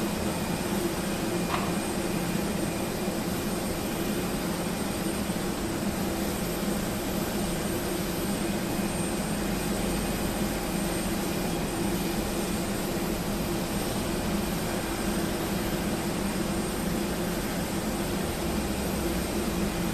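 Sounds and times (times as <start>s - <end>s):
engine drone with high whine: 0.0s - 19.9s.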